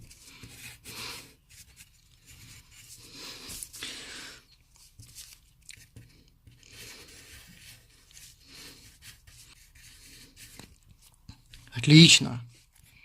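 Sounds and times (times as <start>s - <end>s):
pencil scratching on paper: 0.0s - 3.8s, 5.0s - 11.7s.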